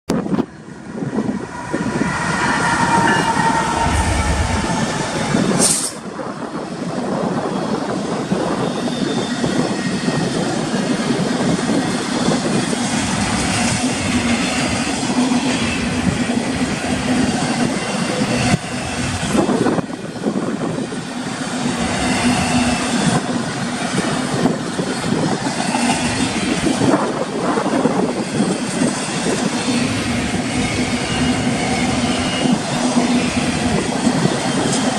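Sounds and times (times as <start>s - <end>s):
freight train passing: 0.1s - 34.9s.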